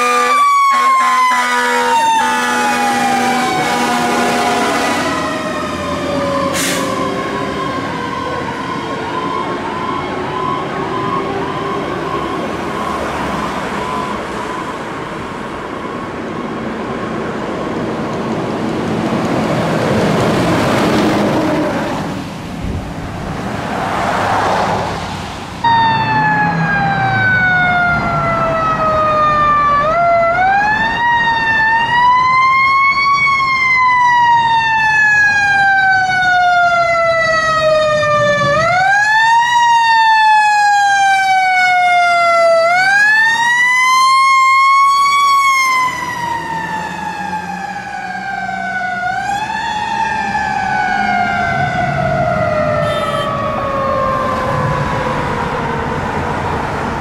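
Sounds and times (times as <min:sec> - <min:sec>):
fire truck siren wailing: 0:00.0 - 0:22.3, 0:25.6 - 0:57.0.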